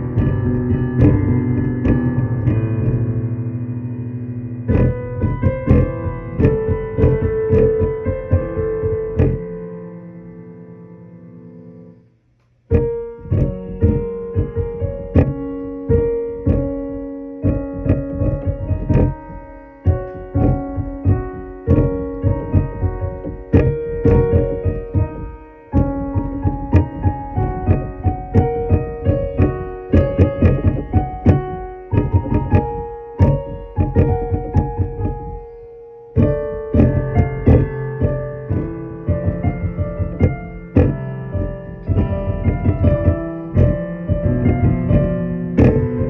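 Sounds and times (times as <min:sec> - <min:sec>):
electric piano playing: 0:00.0 - 0:46.0.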